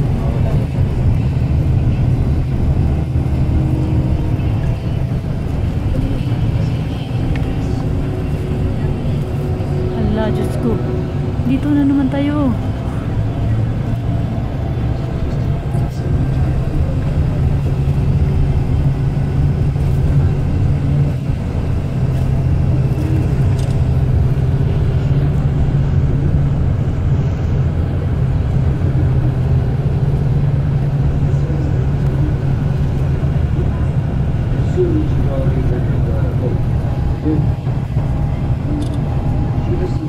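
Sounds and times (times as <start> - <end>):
vehicle engine and road hum: 0.0 - 40.0.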